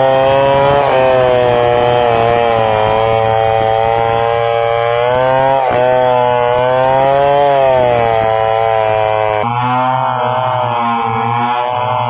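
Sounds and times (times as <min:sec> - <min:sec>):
chainsaw cutting through log: 0:00.0 - 0:12.0.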